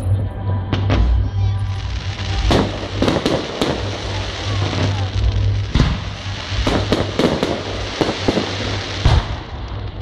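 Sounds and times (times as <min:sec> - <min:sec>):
background rumble: 0:00.0 - 0:10.0
fireworks bangs: 0:00.7 - 0:10.0.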